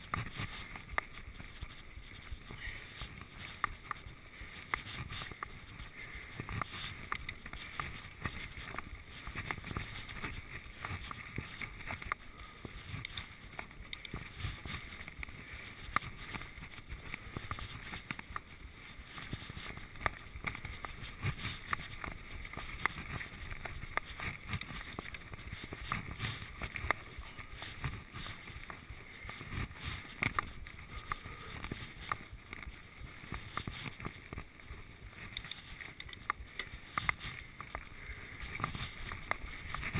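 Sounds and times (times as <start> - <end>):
bike clicking and rattling: 0.0 - 39.9
bike tyres rumbling on dirt: 0.0 - 39.9.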